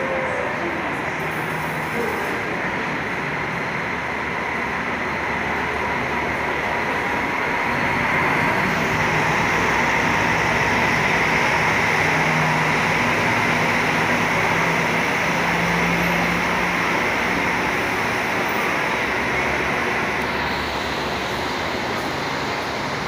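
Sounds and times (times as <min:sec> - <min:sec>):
diesel coach engine: 0:00.0 - 0:23.0
traffic noise: 0:00.0 - 0:23.0.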